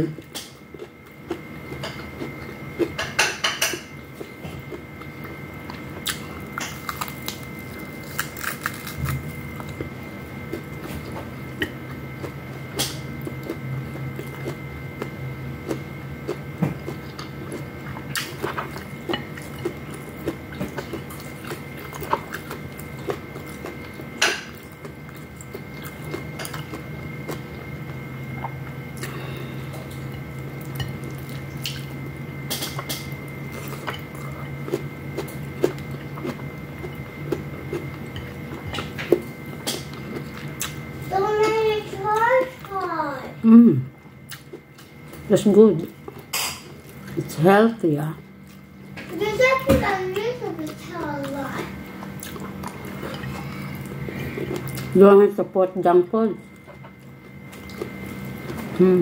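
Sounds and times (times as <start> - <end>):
chewing: 0.2 - 3.2, 4.0 - 40.9, 44.0 - 47.3, 50.1 - 55.0, 56.4 - 58.9.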